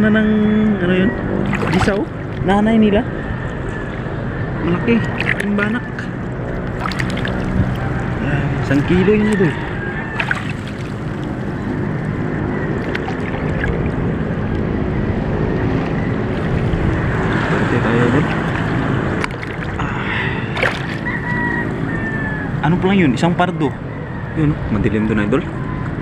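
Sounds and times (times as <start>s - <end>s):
boat engine running: 0.0s - 23.4s.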